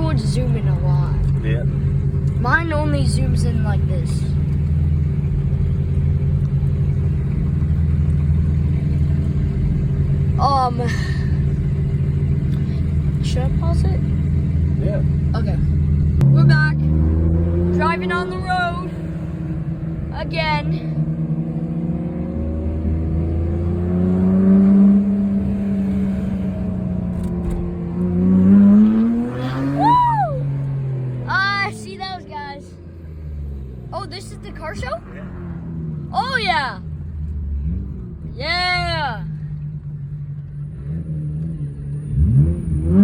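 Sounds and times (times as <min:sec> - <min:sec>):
car engine and road noise drone: 0:00.0 - 0:43.0.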